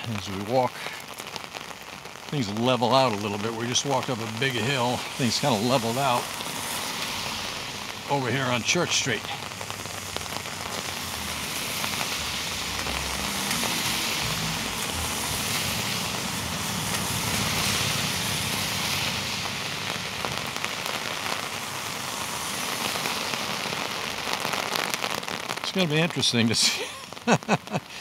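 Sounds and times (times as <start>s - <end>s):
heavy rain on an umbrella: 0.0s - 28.0s.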